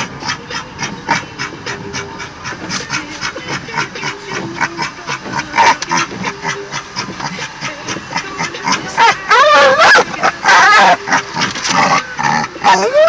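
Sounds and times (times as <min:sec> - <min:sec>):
dog panting: 0:00.0 - 0:13.0
dog whining: 0:00.0 - 0:13.0.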